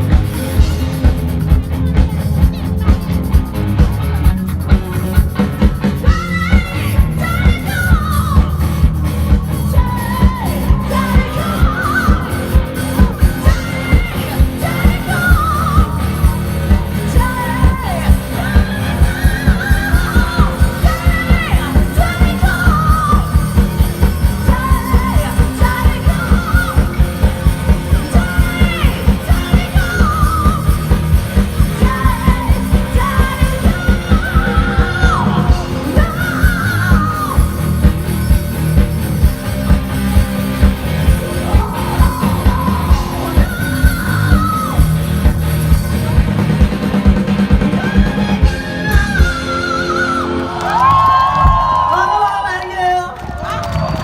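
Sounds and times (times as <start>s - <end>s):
fast drum beat: 0.0s - 49.8s
rock band playing: 0.0s - 54.0s.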